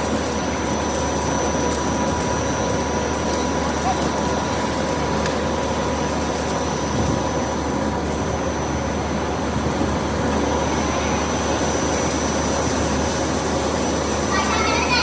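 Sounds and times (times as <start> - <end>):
factory machinery running: 0.0 - 15.0.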